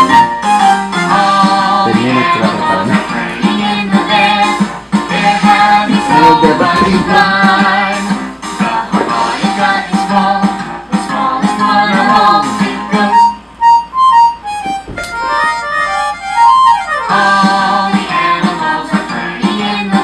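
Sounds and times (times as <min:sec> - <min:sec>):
music with steady beat: 0:00.0 - 0:20.0.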